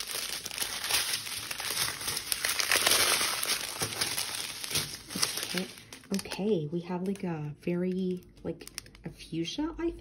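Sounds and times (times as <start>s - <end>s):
plastic bags crinkling: 0.0s - 7.3s, 7.9s - 9.2s.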